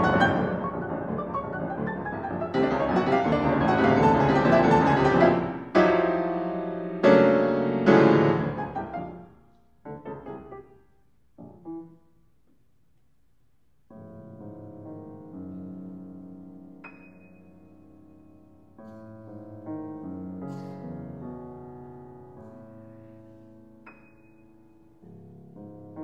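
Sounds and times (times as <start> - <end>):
grand piano chords: 0.0 - 12.5, 13.9 - 26.0.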